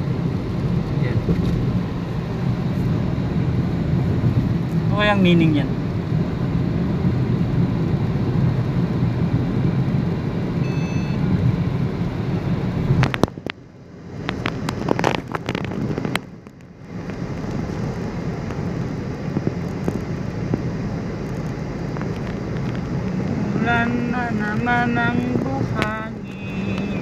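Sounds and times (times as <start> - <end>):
car road and wind noise: 0.0 - 27.0.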